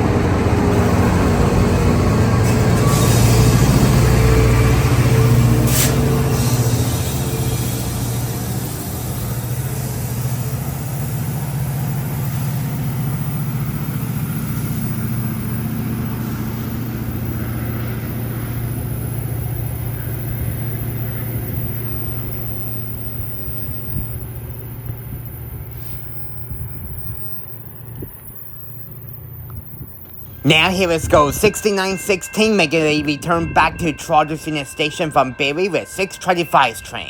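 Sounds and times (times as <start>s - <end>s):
diesel locomotive engine droning: 0.0s - 37.0s.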